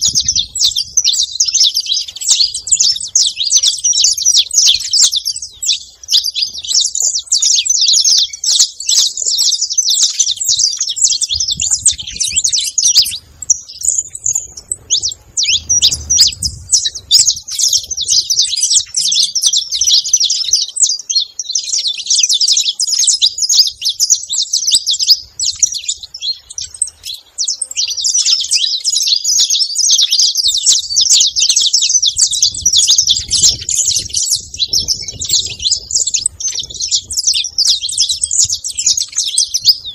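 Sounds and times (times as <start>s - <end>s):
flock of finches chirping: 0.0s - 39.9s.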